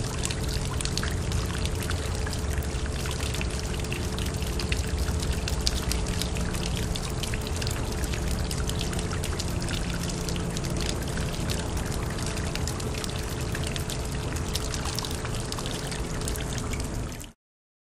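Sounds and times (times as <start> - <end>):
deep gurgling rumble: 0.0 - 17.3
water pouring into a drain: 0.0 - 17.4.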